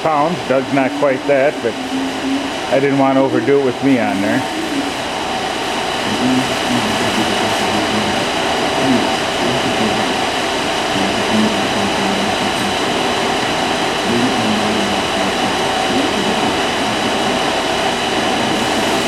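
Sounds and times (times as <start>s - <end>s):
electric motor whine: 0.0s - 19.0s
rumbling drone: 0.0s - 19.0s.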